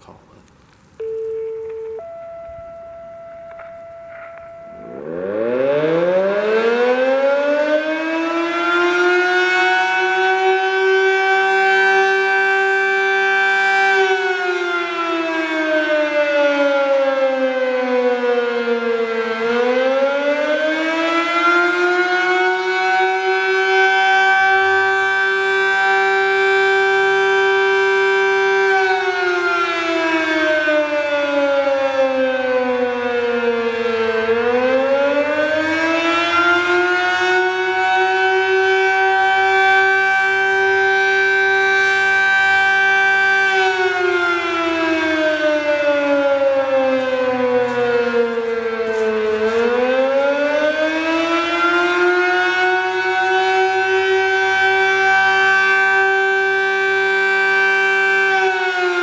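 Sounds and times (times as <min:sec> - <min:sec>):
fire siren wailing: 0:01.0 - 0:59.0.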